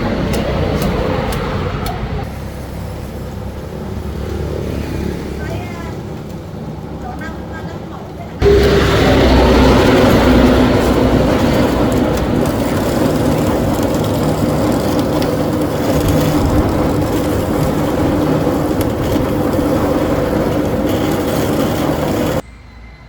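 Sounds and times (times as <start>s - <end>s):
loud travel noise: 0.0s - 23.0s
vehicle engine hum: 0.0s - 23.0s.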